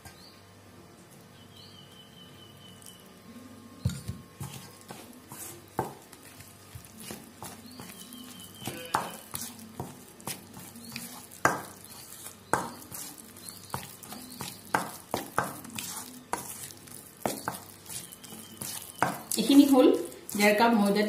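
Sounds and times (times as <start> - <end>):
batter stirred in steel bowl: 3.8 - 21.0.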